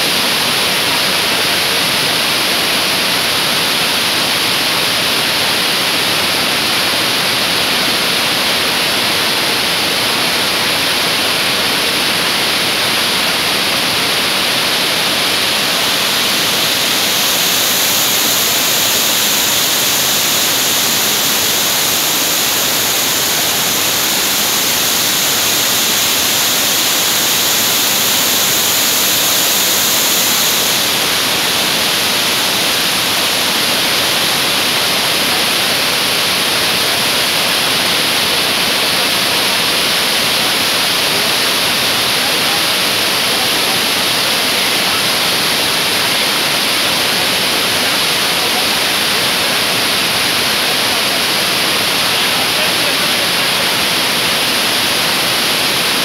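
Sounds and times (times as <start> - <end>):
waterfall rushing: 0.0 - 56.0
cascade splashing over rocks: 2.5 - 56.0.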